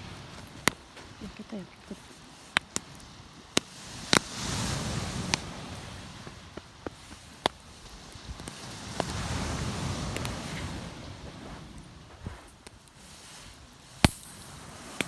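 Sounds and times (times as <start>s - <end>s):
campfire crackling and popping: 0.0s - 11.7s, 12.6s - 15.0s.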